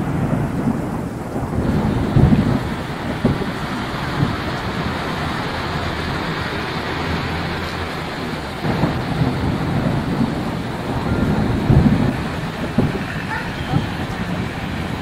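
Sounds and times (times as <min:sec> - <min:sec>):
fire roaring and crackling: 0:00.0 - 0:15.0
low rumbling surges: 0:00.0 - 0:15.0.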